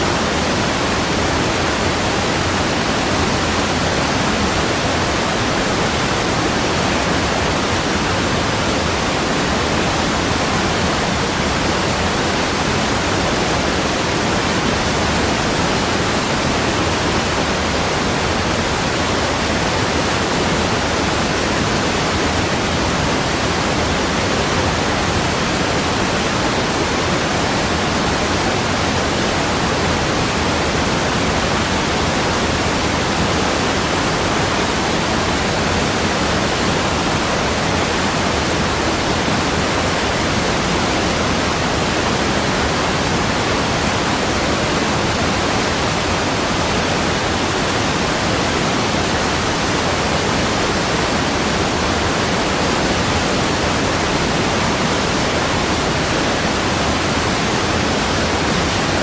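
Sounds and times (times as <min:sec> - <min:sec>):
rushing falling water: 0:00.0 - 0:59.0.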